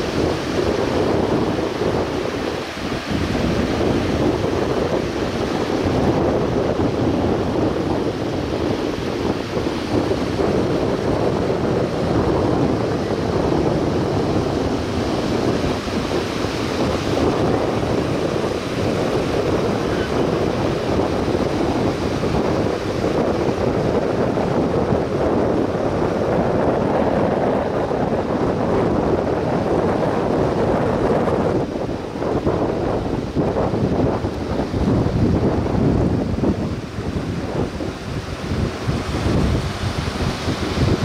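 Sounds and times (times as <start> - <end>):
sea wash: 0.0 - 41.0
wind noise on microphone: 0.0 - 41.0.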